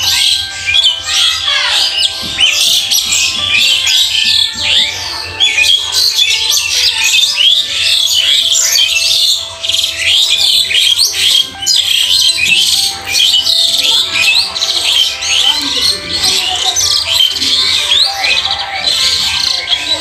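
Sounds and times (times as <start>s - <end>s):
small birds chirping and squawking: 0.0s - 20.0s.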